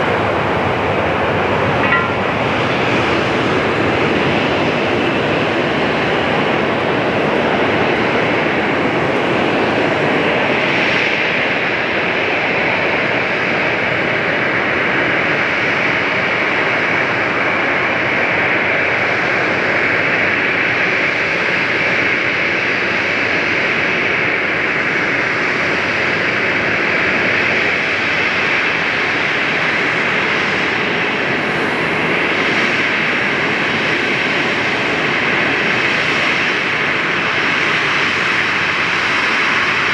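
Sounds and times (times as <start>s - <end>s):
jet engines whining at taxi: 0.0s - 39.9s.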